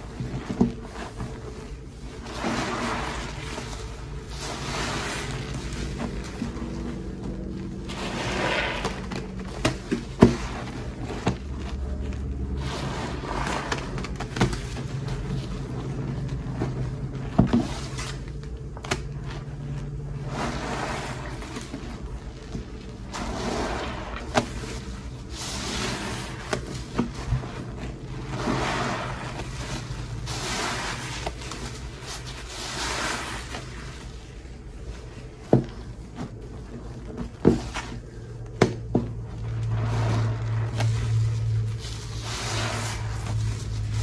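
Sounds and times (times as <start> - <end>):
sponge squelching in soap foam: 0.0 - 44.0
steady low hum: 0.0 - 44.0.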